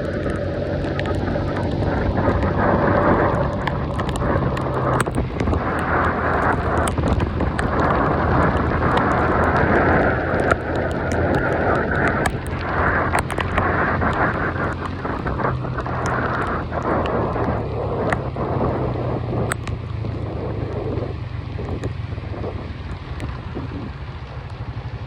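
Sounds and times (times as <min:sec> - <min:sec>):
heavy rain falling: 0:00.0 - 0:25.0
raindrops ticking on microphone: 0:00.0 - 0:25.0.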